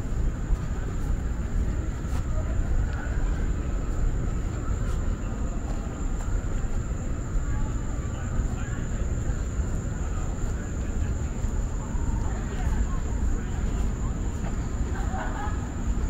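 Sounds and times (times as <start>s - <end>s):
faint distant voices: 0.0s - 16.0s
steady low rumble: 0.0s - 16.0s.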